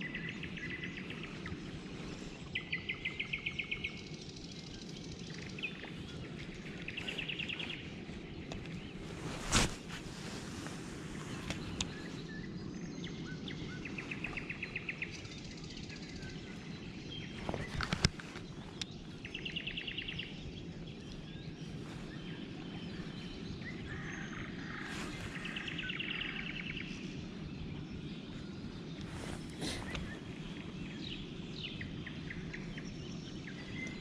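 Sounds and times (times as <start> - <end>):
low outdoor background hum: 0.0 - 34.0
songbird trill: 0.0 - 34.0.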